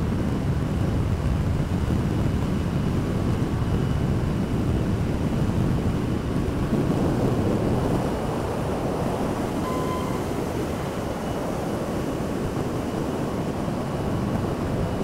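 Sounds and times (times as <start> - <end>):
truck tyre and wind noise: 0.0 - 15.0.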